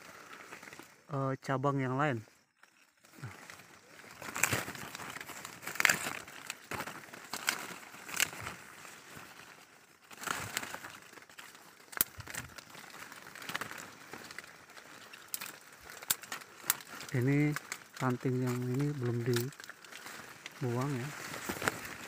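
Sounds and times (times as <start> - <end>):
leaves and branches rustling: 0.0 - 22.0.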